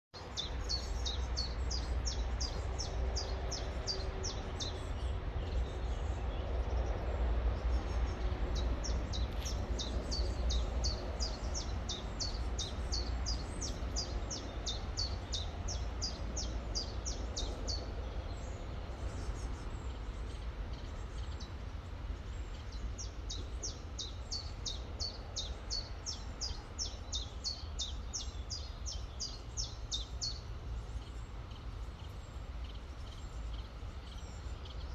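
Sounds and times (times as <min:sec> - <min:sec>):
songbird chirping: 0:00.2 - 0:34.9.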